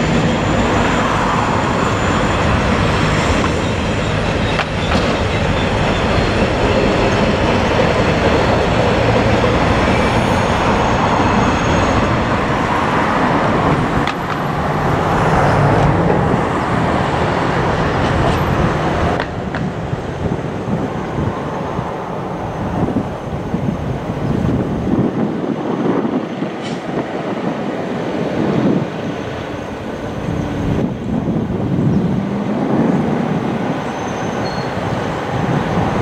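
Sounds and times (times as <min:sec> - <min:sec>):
diesel locomotive engine hum: 0:00.0 - 0:36.0
train wheels rumbling on rails: 0:00.0 - 0:36.0.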